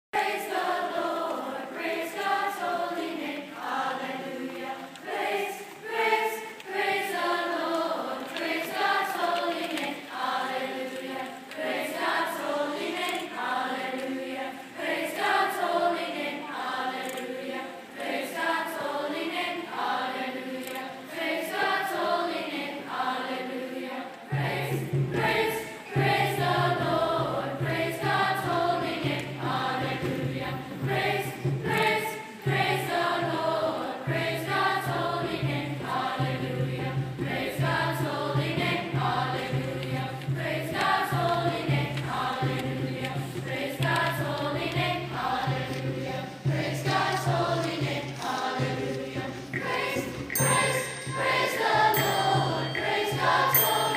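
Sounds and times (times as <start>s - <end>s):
children's choir singing: 0.2s - 53.9s.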